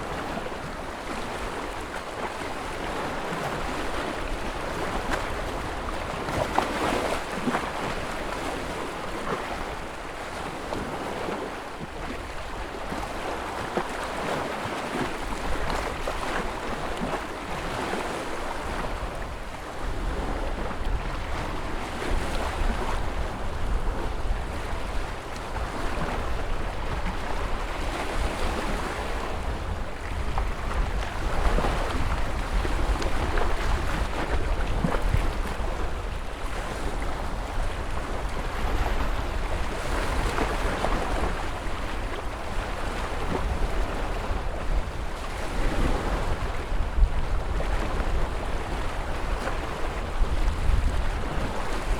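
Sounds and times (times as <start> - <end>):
ocean surf washing: 0.0 - 51.9.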